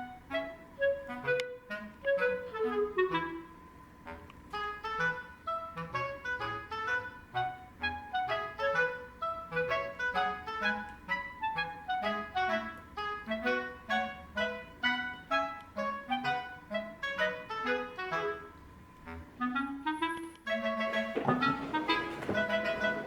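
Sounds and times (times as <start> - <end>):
light background music: 0.0 - 23.0.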